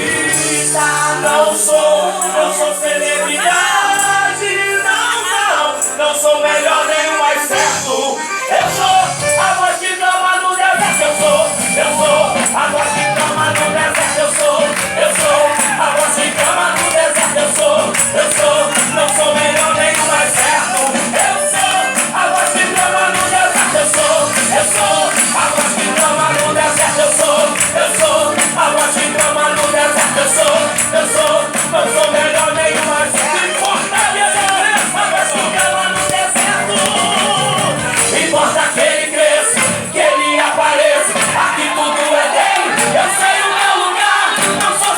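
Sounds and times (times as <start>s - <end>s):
gospel worship music: 0.0s - 44.9s
tambourine shaken: 0.0s - 44.9s.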